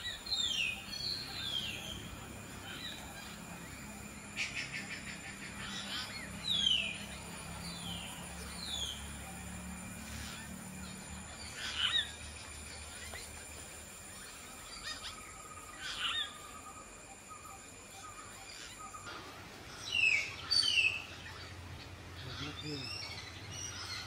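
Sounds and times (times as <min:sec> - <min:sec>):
birds whistled calls: 0:00.0 - 0:24.0.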